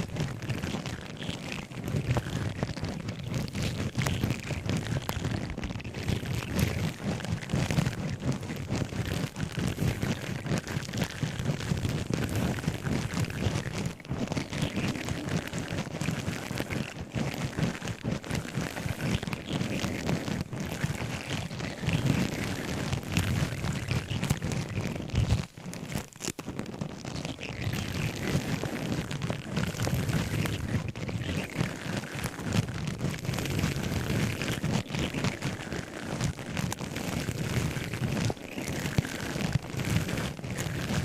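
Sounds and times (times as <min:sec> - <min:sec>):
objects rustling and crackling: 0:00.0 - 0:41.0.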